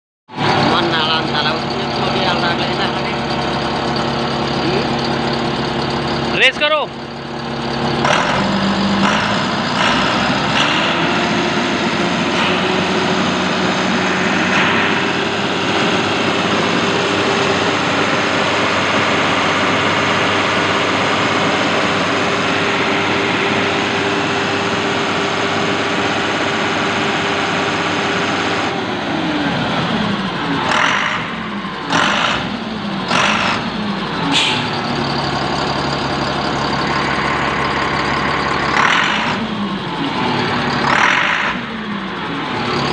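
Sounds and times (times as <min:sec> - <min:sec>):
diesel engine revving: 0:00.3 - 0:42.9.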